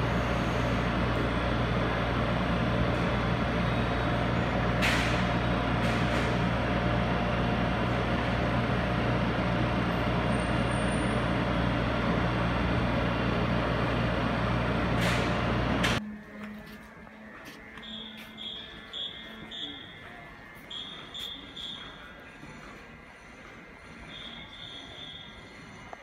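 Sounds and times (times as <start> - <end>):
train equipment humming: 0.0 - 26.0.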